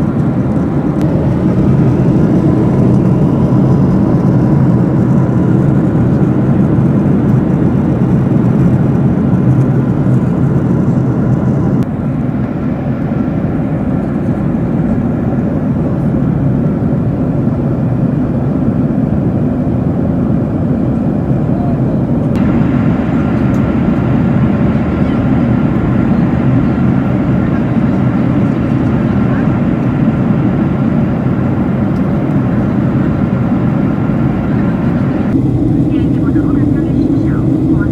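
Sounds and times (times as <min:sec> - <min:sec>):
jet airliner cabin noise: 0:00.0 - 0:37.9.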